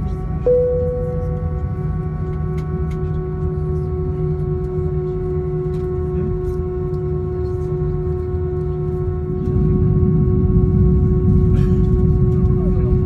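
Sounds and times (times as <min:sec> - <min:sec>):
jet engines droning in cabin: 0:00.0 - 0:13.0.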